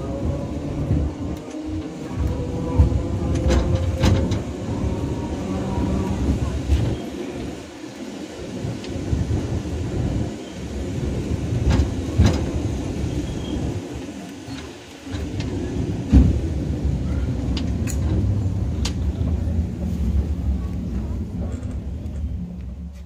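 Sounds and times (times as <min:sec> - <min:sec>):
tram rumbling on track: 0:00.0 - 0:23.0.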